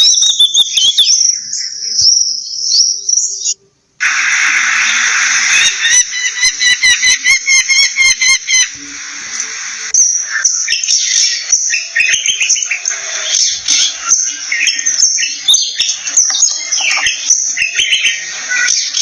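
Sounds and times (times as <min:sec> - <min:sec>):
birdsong: 0:00.0 - 0:19.0.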